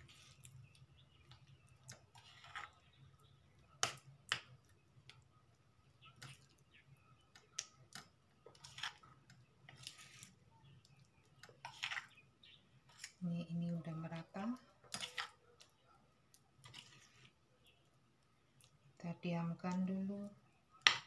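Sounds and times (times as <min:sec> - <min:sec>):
soft squelches of batter: 0:00.0 - 0:21.0.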